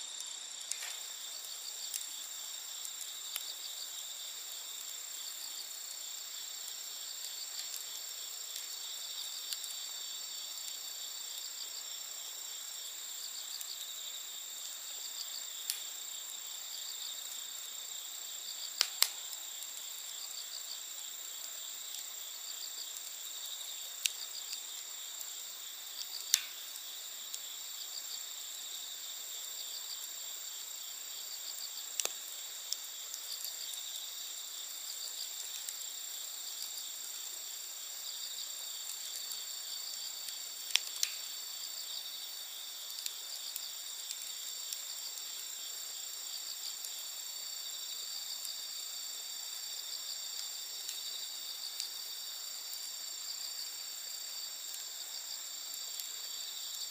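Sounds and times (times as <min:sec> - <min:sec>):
night insects chirping: 0:00.0 - 0:56.9
campfire popping: 0:00.1 - 0:56.9.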